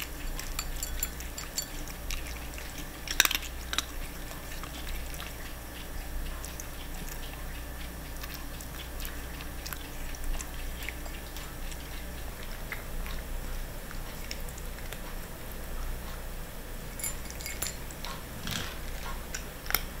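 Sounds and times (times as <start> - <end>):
cats chewing food: 0.0 - 20.0
low background hum: 0.0 - 20.0.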